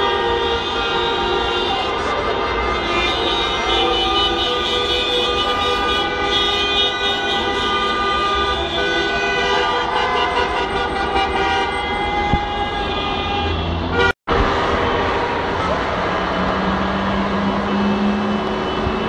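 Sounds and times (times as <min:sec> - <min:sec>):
car horns honking: 0:00.0 - 0:16.4
traffic rumble: 0:00.0 - 0:19.0.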